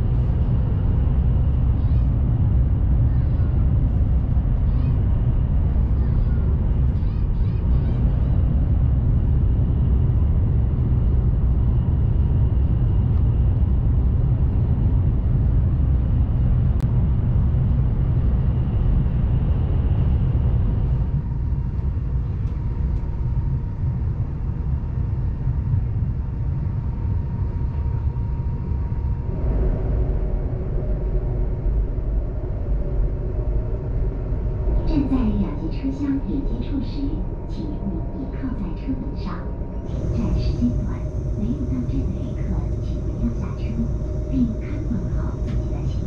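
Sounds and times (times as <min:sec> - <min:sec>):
faint steady whine: 0:00.0 - 0:46.0
train cabin rumble and hum: 0:00.0 - 0:46.0.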